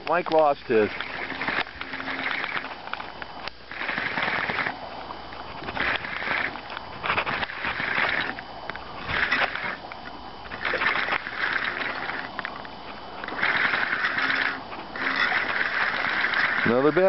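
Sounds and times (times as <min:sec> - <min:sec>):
fishing reel whirring: 0:00.0 - 0:17.0.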